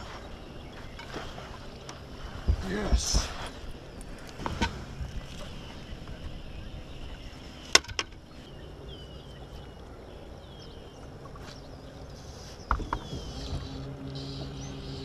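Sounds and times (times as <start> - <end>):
water: 0.0 - 15.0
wind: 0.0 - 15.0.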